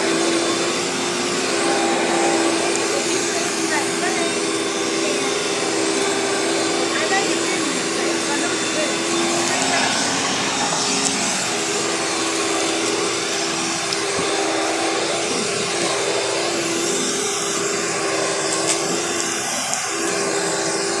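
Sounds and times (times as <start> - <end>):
vacuum cleaner running on carpet: 0.0 - 21.0.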